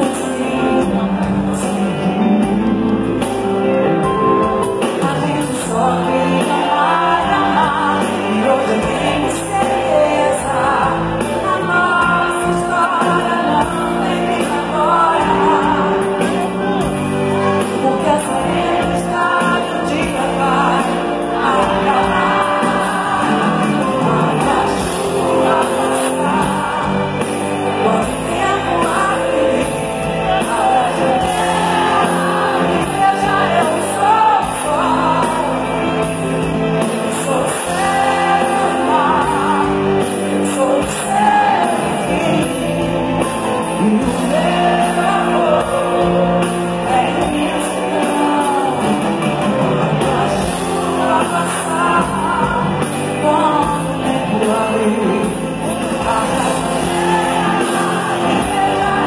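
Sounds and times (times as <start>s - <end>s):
woman singing with live band: 0.0s - 59.0s.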